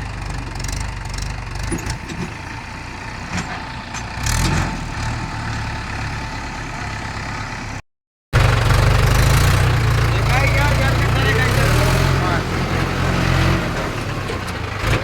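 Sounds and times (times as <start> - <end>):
tractor diesel engine running: 0.0 - 7.8, 8.4 - 15.0.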